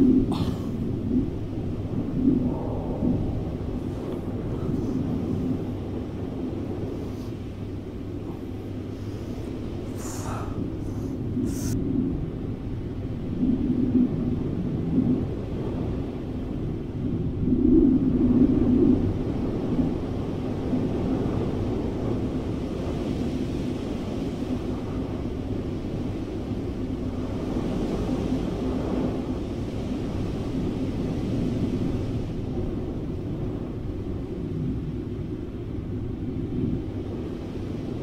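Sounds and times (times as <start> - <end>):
rushing air rumble: 0.0 - 38.0.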